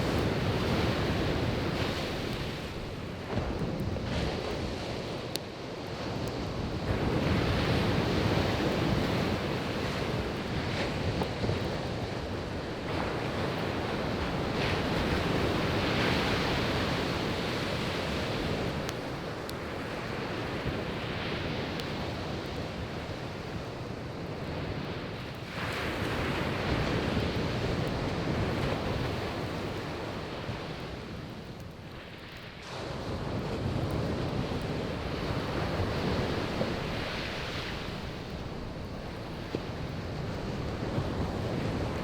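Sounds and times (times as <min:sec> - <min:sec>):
sea waves breaking on beach: 0:00.0 - 0:42.0.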